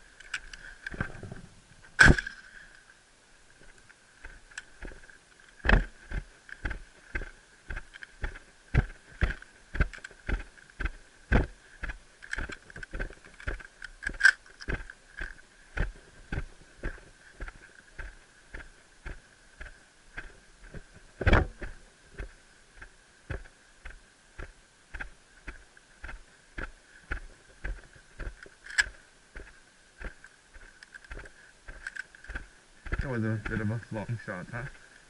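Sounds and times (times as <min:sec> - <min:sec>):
footsteps on sandy ground: 0:00.0 - 0:02.8, 0:03.4 - 0:35.0.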